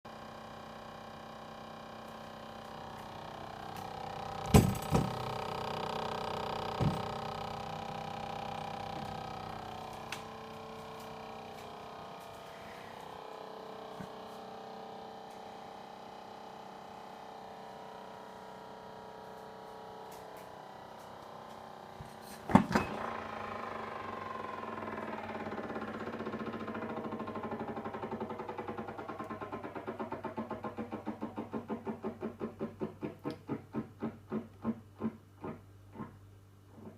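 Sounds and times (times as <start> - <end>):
fridge freezer humming drone: 0.1 - 36.9.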